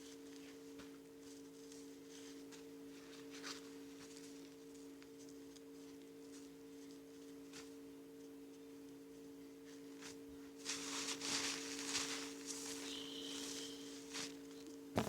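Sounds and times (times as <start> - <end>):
rustling and scraping handling noises: 0.0 - 15.0
two-tone electrical hum: 0.0 - 15.0.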